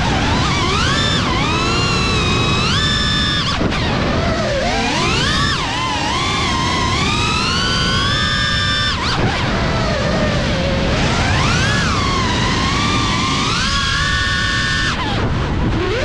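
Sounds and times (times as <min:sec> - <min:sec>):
drone motors whining: 0:00.0 - 0:16.0
steady rushing noise: 0:00.0 - 0:16.0.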